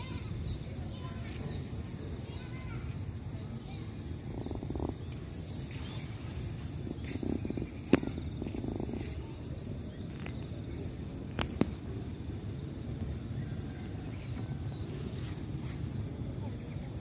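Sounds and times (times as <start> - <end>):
low rumble of flooded river: 2.9 - 17.0.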